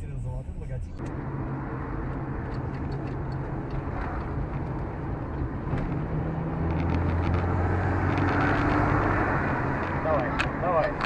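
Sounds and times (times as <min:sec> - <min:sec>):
car engine hum: 0:00.0 - 0:11.0
road noise inside car: 0:00.0 - 0:11.0.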